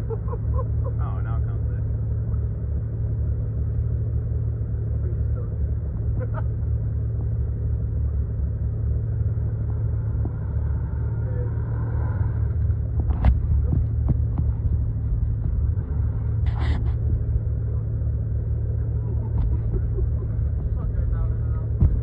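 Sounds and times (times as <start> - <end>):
vehicle engine running low: 0.0 - 22.0.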